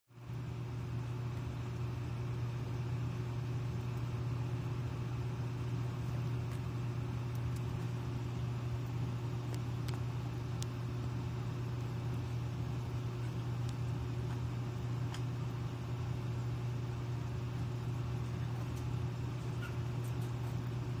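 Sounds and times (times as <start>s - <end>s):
low mechanical hum: 0.1s - 21.0s.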